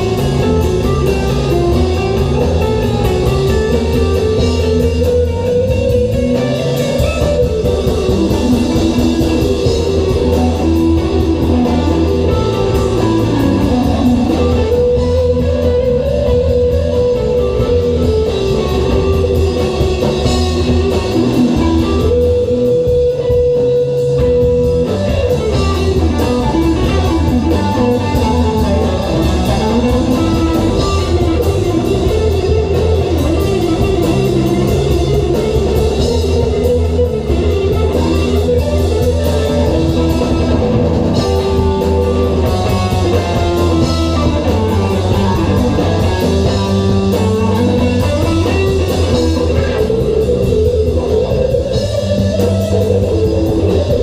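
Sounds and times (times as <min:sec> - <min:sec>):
bass guitar: 0:00.0 - 0:54.0
drum kit: 0:00.0 - 0:54.0
electric guitar lead: 0:00.0 - 0:54.0.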